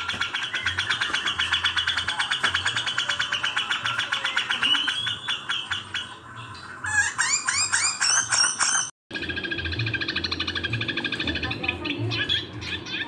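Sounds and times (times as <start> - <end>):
birds chattering harshly: 0.0 - 13.0
loud arching bird notes: 0.0 - 13.0.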